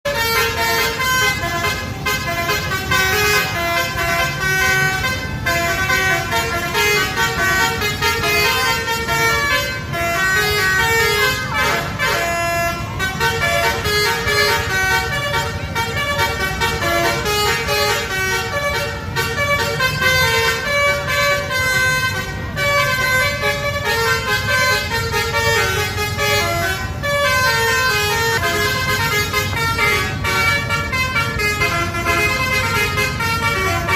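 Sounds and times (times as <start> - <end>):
multi-tone air horn melody: 0.0 - 33.9
bus engine rumble: 0.1 - 33.9.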